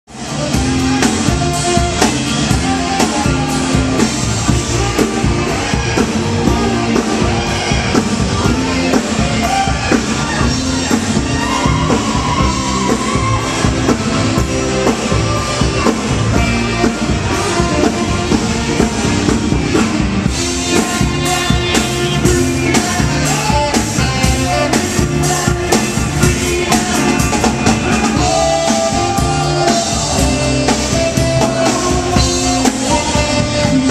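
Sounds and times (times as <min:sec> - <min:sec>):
drum kit: 0:00.1 - 0:33.9
electric guitar: 0:00.1 - 0:33.9
person singing: 0:00.1 - 0:33.9.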